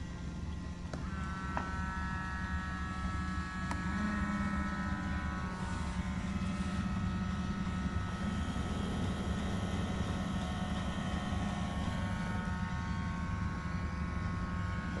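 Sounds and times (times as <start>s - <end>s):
electric motors humming: 0.0s - 15.0s
high motor whine: 0.0s - 15.0s.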